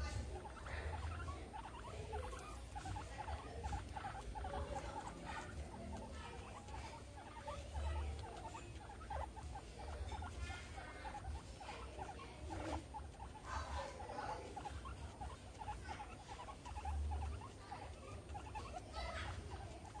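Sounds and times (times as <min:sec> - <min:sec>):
guinea pigs squeaking: 0:00.0 - 0:20.0
rustling: 0:00.0 - 0:20.0.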